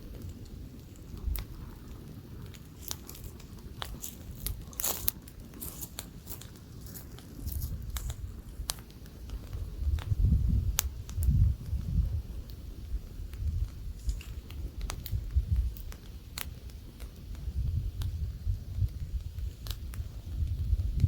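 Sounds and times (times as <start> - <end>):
campfire crackling and popping: 0.0 - 21.0
wind on microphone: 0.0 - 21.0.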